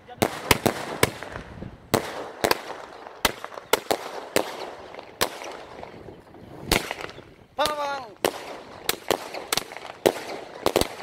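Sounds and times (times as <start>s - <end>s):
firework bangs: 0.2s - 11.0s
firework crackle and hiss: 0.2s - 11.0s.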